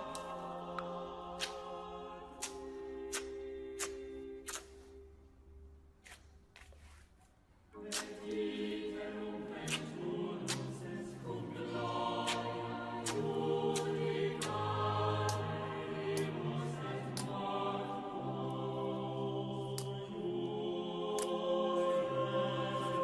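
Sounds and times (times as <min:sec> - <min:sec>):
choral voices: 0:00.0 - 0:05.1, 0:07.7 - 0:23.0.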